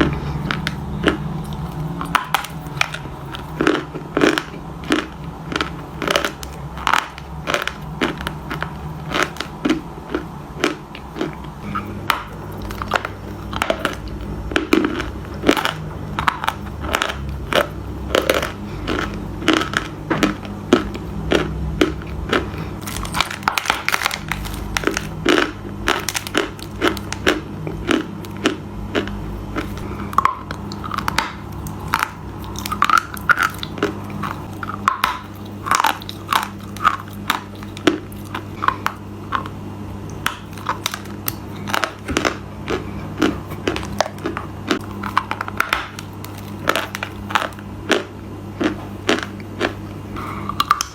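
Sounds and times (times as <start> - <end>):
crunchy food chewing: 0.0 - 50.9
steady low hum: 0.0 - 50.9.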